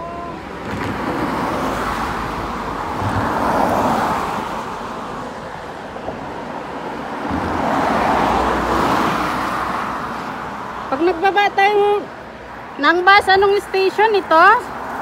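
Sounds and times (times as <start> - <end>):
traffic rushing by: 0.0 - 15.0.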